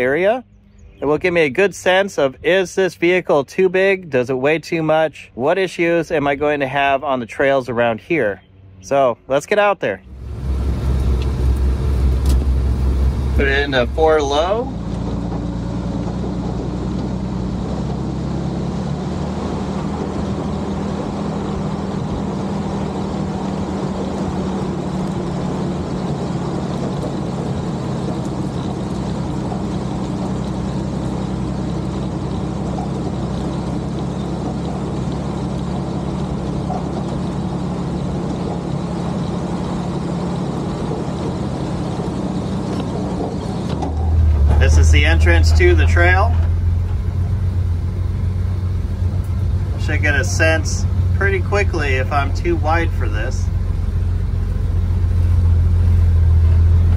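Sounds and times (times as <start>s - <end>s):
truck engine droning: 0.0s - 56.9s.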